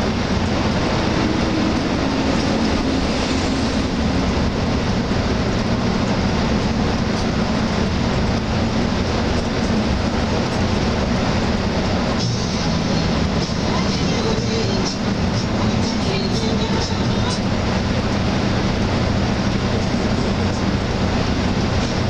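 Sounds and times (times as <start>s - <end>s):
diesel engine hum: 0.0s - 22.0s.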